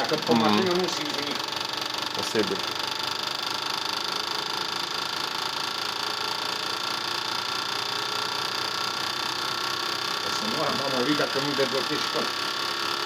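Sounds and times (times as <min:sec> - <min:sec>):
fast mechanical clicking of injectors: 0:00.0 - 0:13.0.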